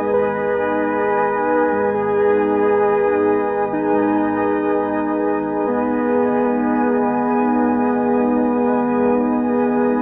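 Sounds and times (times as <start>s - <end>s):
sustained organ-like keyboard chords: 0.0s - 10.0s.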